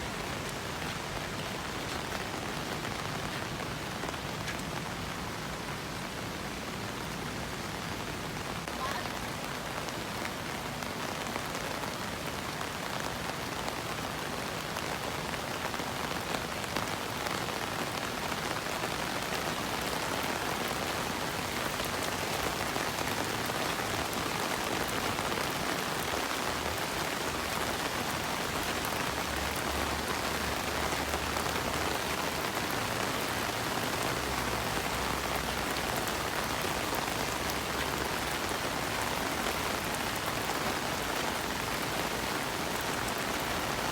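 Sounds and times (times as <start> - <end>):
rain pattering on surfaces: 0.0 - 43.9.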